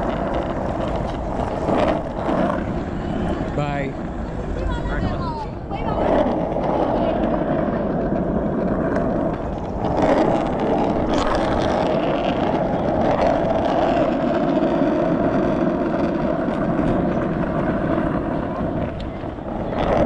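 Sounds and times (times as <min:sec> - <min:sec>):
skateboard wheels rolling on asphalt: 0:00.0 - 0:20.0
wind buffeting microphone: 0:00.0 - 0:20.0.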